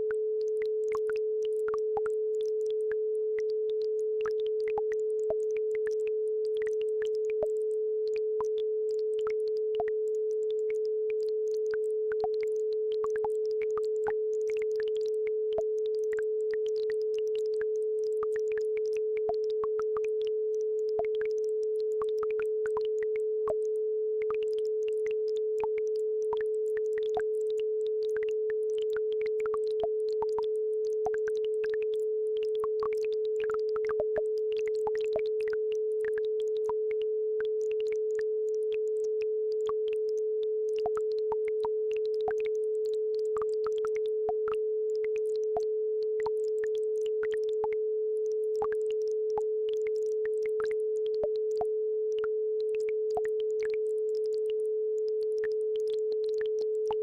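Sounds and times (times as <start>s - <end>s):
steady sine tone: 0.0s - 57.0s.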